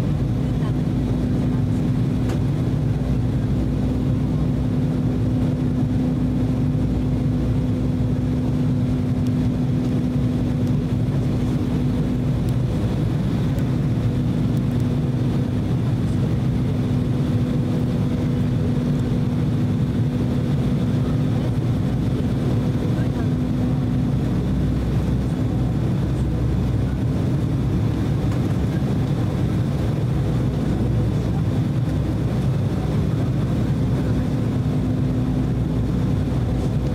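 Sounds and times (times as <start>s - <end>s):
airliner cabin engine drone: 0.0s - 36.9s.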